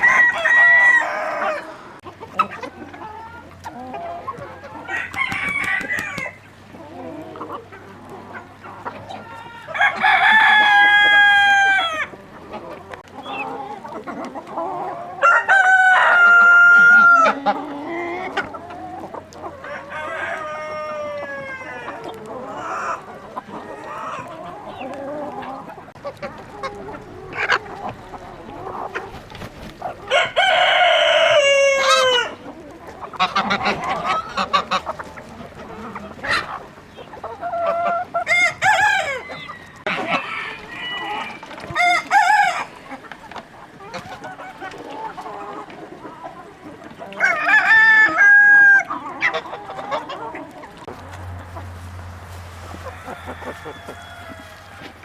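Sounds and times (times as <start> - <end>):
roosters crowing: 0.0 - 12.3, 14.6 - 45.7, 47.0 - 55.0
chickens clucking: 0.0 - 55.0.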